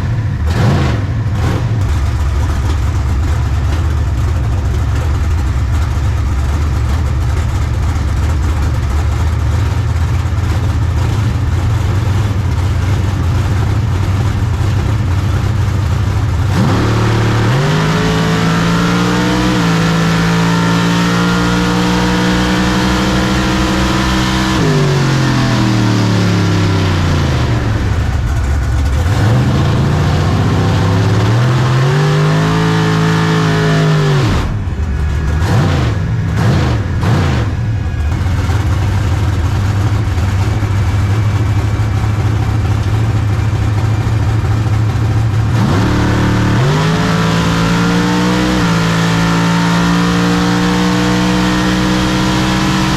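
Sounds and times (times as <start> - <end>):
race car engine idling and revving: 0.0 - 52.9.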